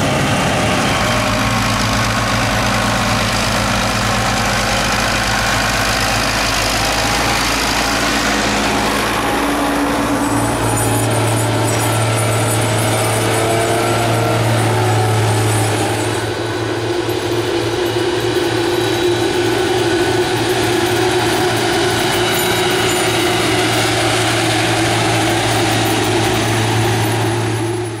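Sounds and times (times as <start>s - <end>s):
harvest machine engine drone: 0.0s - 28.0s
mechanical rush and clatter: 0.0s - 28.0s.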